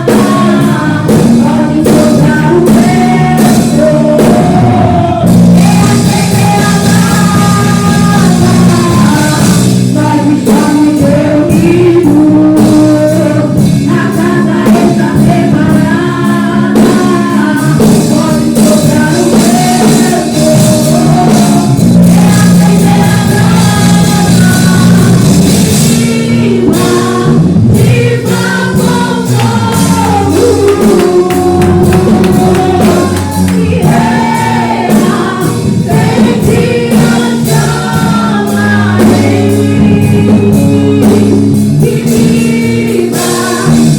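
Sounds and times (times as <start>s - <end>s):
band playing worship music: 0.0s - 43.9s
people singing: 0.0s - 43.9s.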